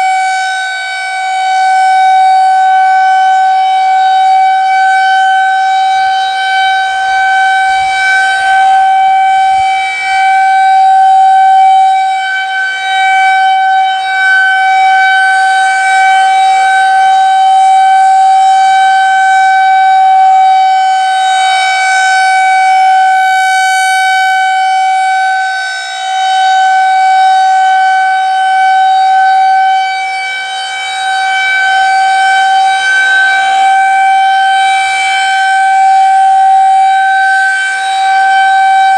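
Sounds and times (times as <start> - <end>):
rotating warning siren: 0.0 - 38.9.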